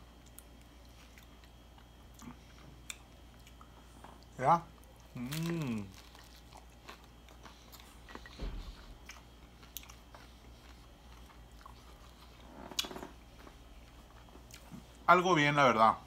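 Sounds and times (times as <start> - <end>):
person chewing crunchy food: 0.0 - 15.1.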